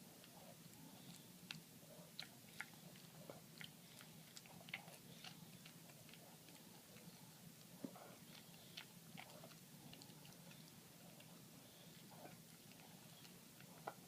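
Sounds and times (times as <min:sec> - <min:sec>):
crunchy chewing: 0:00.2 - 0:14.0.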